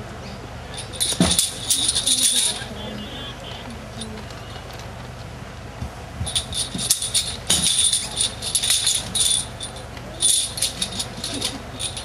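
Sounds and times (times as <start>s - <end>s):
steady low hum: 0.0s - 12.0s
metallic jingling and rattling: 0.6s - 5.0s, 6.2s - 12.0s.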